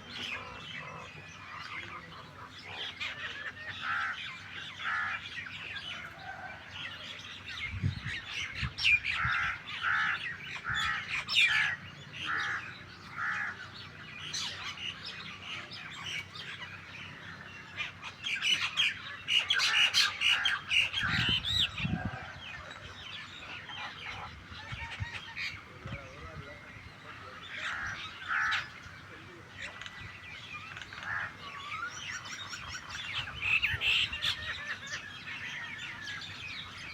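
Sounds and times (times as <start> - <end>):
starlings and mynas chattering: 0.0 - 36.9.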